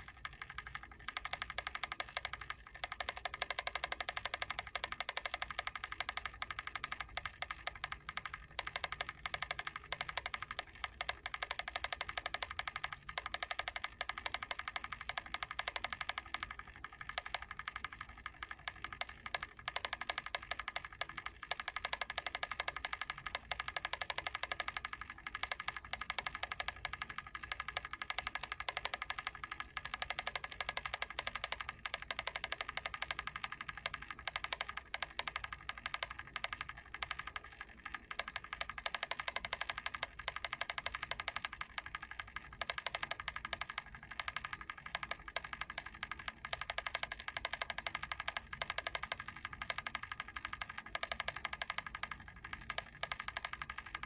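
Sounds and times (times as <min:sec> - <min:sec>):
mechanical timer ticking: 0:00.0 - 0:54.0.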